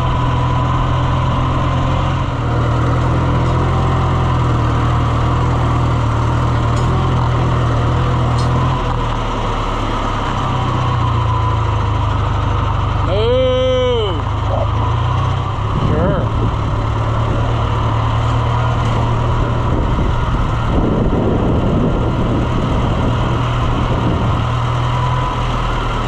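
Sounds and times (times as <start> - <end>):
farm vehicle engine droning: 0.0 - 26.0.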